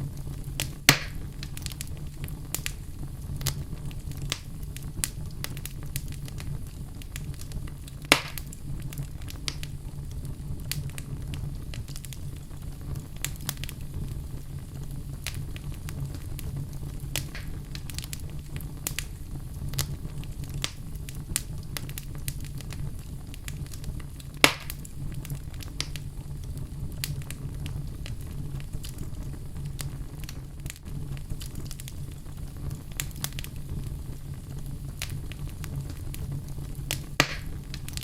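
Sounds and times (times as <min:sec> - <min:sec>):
flames rumbling: 0:00.0 - 0:38.0
wood fire crackling and popping: 0:00.0 - 0:38.0.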